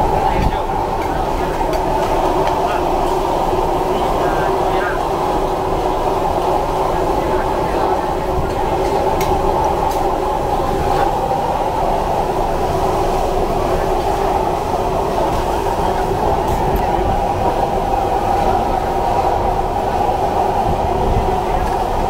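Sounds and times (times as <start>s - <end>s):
gas burners roaring: 0.0s - 22.0s.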